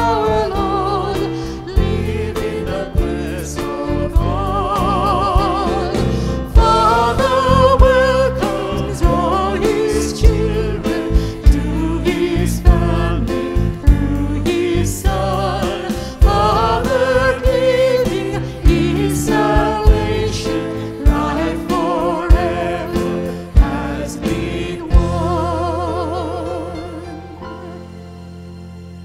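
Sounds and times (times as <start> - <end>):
group singing a hymn: 0.0 - 27.9
bass guitar: 0.0 - 29.0
keyboard: 0.0 - 29.0.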